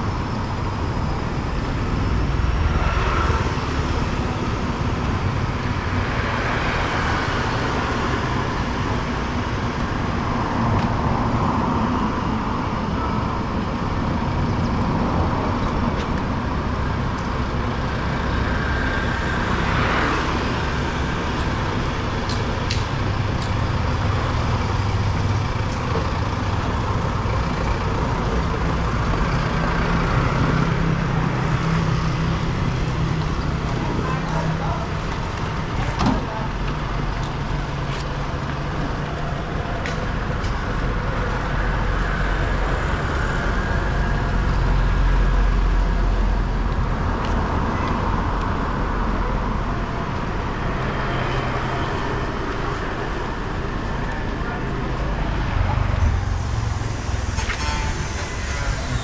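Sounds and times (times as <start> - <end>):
traffic rumble: 0.0 - 59.0
vehicle engine: 0.0 - 59.0.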